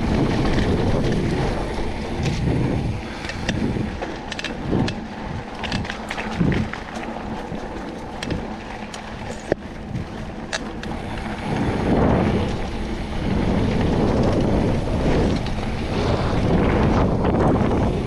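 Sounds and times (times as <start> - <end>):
tyres rumbling on dirt: 0.0 - 18.0
wind buffeting microphone: 0.0 - 18.0.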